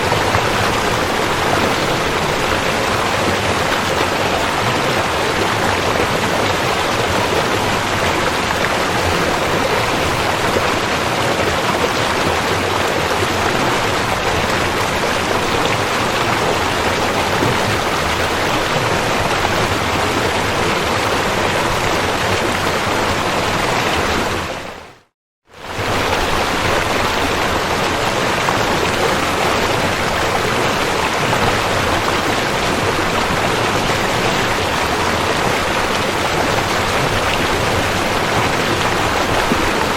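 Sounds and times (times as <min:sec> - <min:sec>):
river water rushing: 0:00.0 - 0:24.8, 0:25.6 - 0:39.9.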